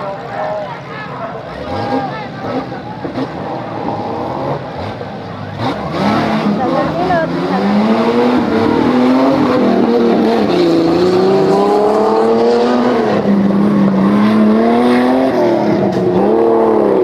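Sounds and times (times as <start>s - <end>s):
off-road engine revving hard: 1.2s - 17.0s.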